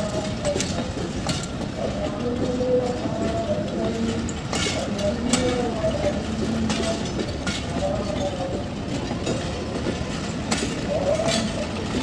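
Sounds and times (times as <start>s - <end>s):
train carriages rumbling: 0.0s - 12.0s
wheels clacking over rail joints: 0.0s - 12.0s.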